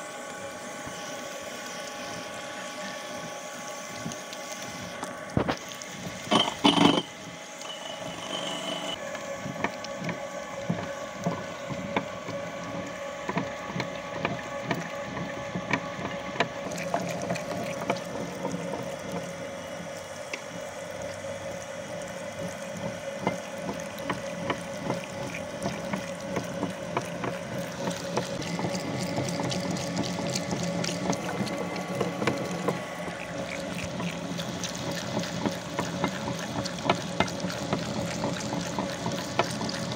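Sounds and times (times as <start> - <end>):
meat grinder humming: 0.0 - 39.9.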